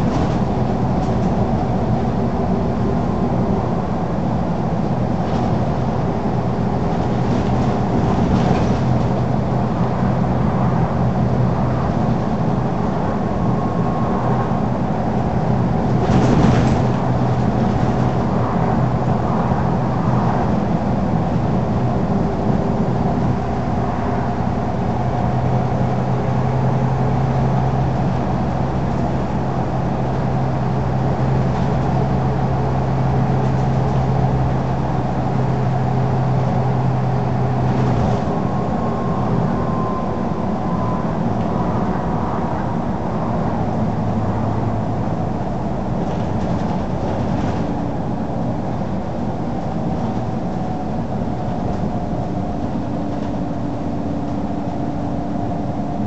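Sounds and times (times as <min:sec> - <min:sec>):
bus engine drone: 0:00.0 - 0:56.0
road and tyre noise: 0:00.0 - 0:56.0.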